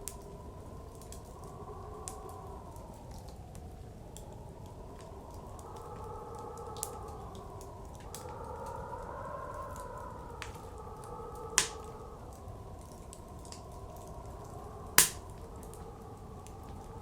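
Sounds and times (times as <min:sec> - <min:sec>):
blizzard wind blowing: 0:00.0 - 0:17.0
wood fire crackling: 0:00.0 - 0:17.0.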